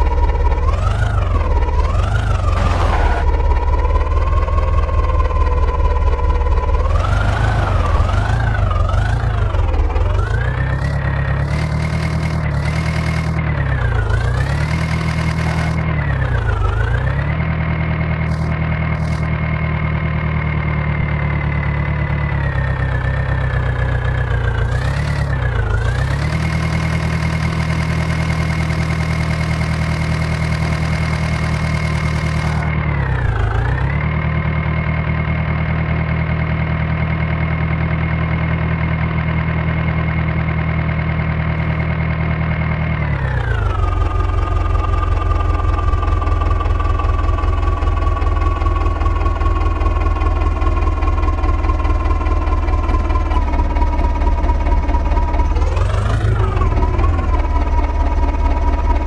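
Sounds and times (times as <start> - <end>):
diesel engine running at high speed: 0.0 - 59.0.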